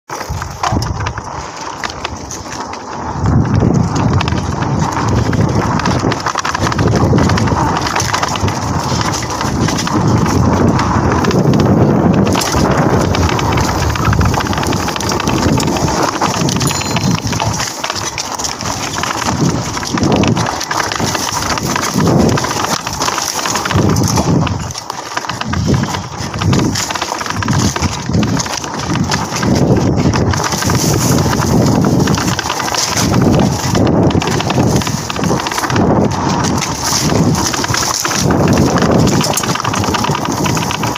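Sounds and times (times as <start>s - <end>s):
mountain bike rattling and knocking: 0.1s - 40.9s
wind buffeting microphone: 0.2s - 40.9s.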